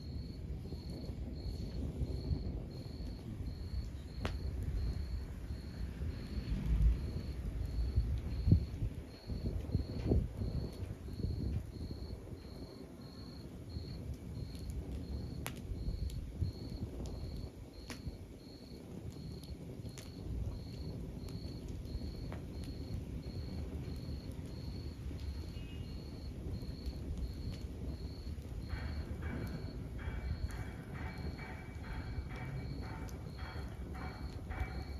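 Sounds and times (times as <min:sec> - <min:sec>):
log fire crackling: 0:00.0 - 0:34.9.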